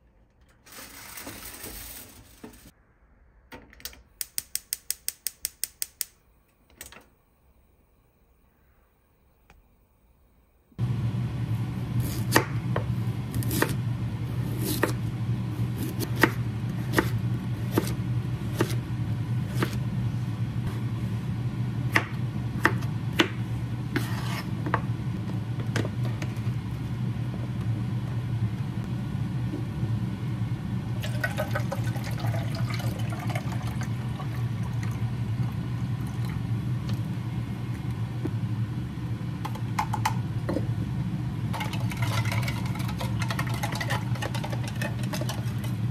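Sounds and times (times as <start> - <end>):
steady low hum: 2.4 - 45.9.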